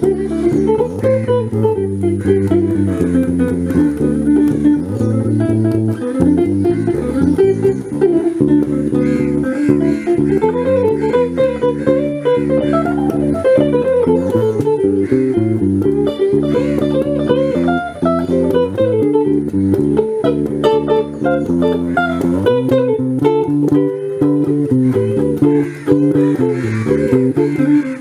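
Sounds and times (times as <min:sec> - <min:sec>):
electric bass guitar: 0:00.0 - 0:28.0
electric guitar single-note runs: 0:00.0 - 0:28.0.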